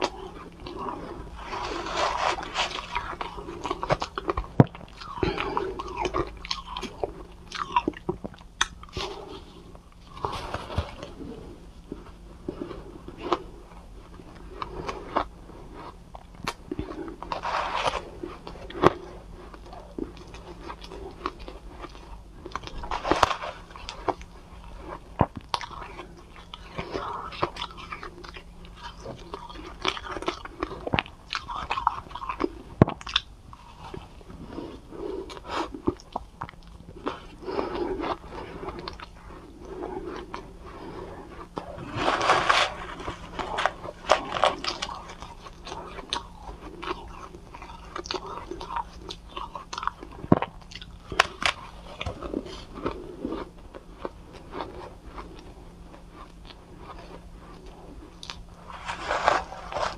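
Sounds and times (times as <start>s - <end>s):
chewing and crunching ice: 0.0s - 59.9s.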